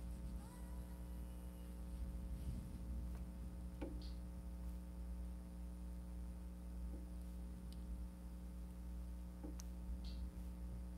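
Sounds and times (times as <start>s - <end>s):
low electrical hum: 0.0s - 10.9s.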